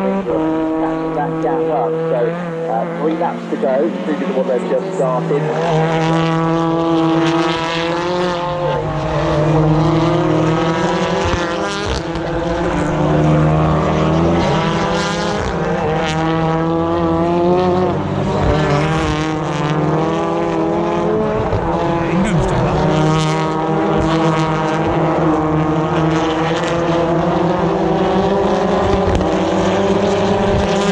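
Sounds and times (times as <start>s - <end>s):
racing car engines at high revs: 0.0s - 30.9s.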